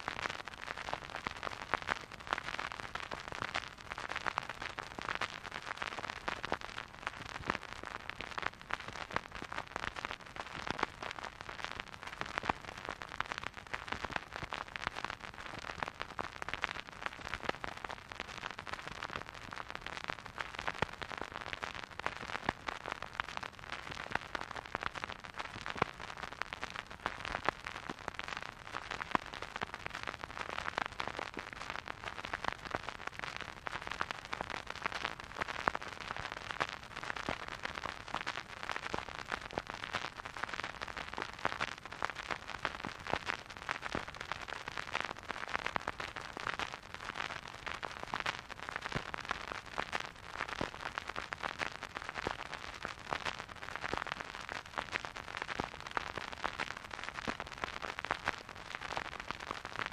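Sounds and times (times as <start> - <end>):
record surface hiss and crackle: 0.0 - 59.9.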